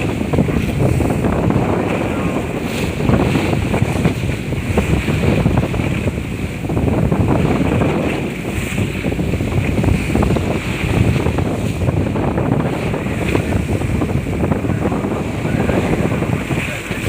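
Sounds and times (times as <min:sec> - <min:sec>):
water washing: 0:00.0 - 0:17.0
wind buffeting microphone: 0:00.0 - 0:17.0.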